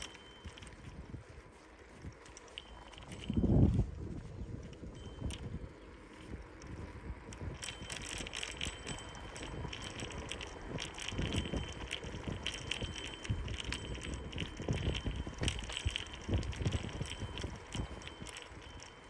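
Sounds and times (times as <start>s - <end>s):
bicycle rolling over asphalt: 0.0s - 19.0s
bike ticks and rattles: 0.0s - 19.0s
faint ringing tone: 0.0s - 19.0s
wind rumble: 0.0s - 19.0s.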